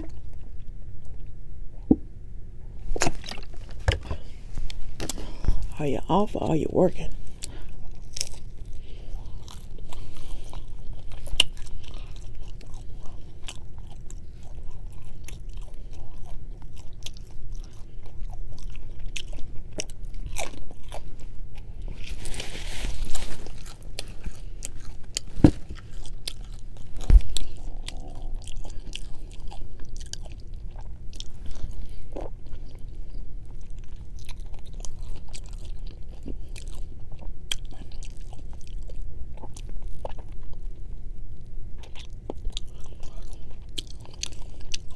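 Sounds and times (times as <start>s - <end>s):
chewing and biting food: 2.9s - 6.5s, 7.1s - 44.9s.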